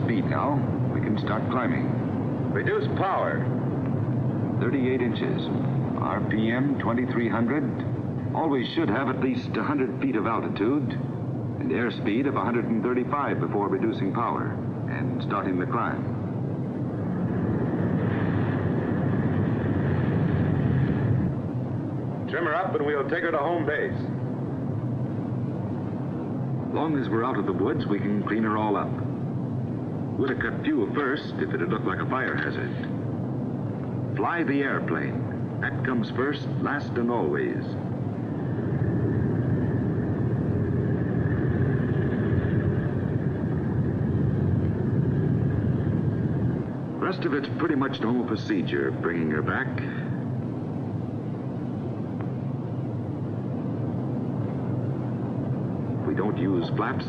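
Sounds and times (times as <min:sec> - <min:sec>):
faint high whine: 0:00.0 - 0:57.0
propeller plane engines droning: 0:00.0 - 0:57.0.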